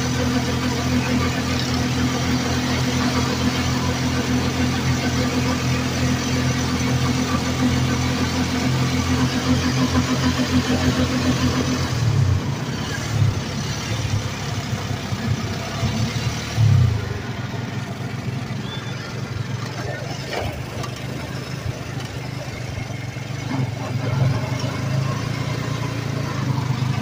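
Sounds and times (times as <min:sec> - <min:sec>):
road and wind noise: 0:00.0 - 0:27.0
vehicle engine running: 0:00.0 - 0:27.0.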